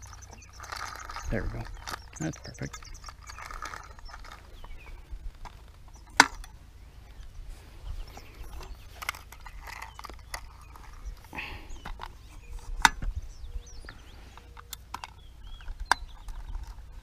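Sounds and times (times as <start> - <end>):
wind rumble on microphone: 0.0 - 14.4.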